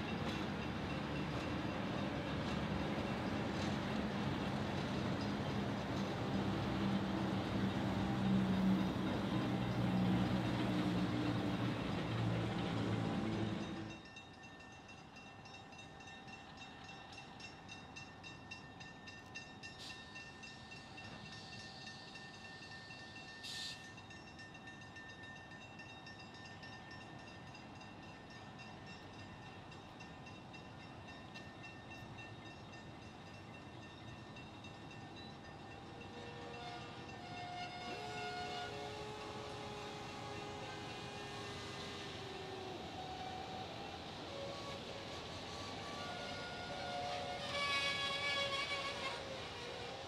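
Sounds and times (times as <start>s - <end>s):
distant train rumble: 0.0s - 50.0s.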